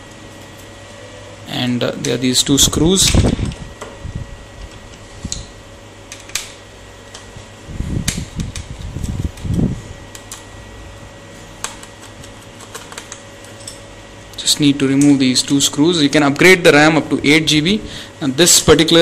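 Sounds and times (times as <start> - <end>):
fan-like hum: 0.0 - 19.0.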